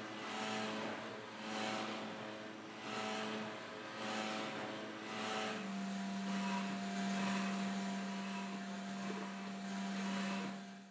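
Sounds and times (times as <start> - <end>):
milling spindle hum and whine: 0.0 - 10.9.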